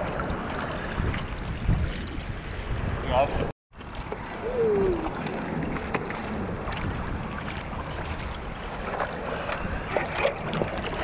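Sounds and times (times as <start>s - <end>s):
water lapping against surfboards: 0.0s - 11.0s
wind on microphone: 0.0s - 11.0s.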